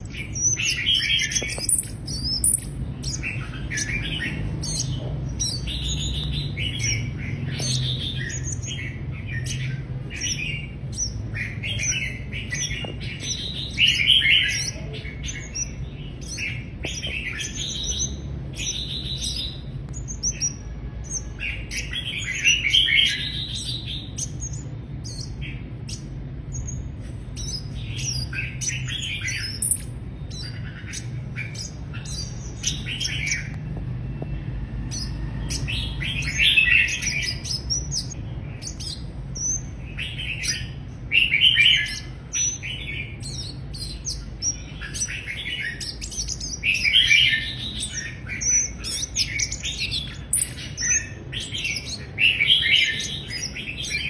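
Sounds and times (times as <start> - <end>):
low background rumble: 0.0 - 54.0
sunbird chirping and twittering: 0.0 - 54.0.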